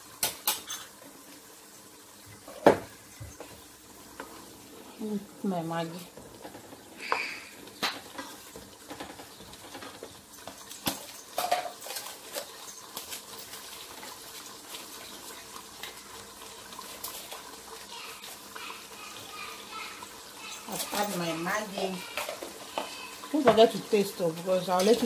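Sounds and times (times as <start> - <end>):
pots crackling and bubbling: 0.0 - 25.0.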